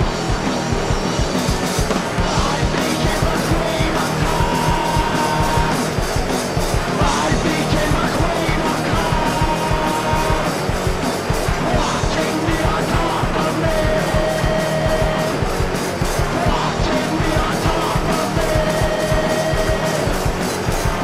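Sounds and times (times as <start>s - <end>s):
distorted electric guitars: 0.0s - 21.0s
fast drumming: 0.0s - 21.0s.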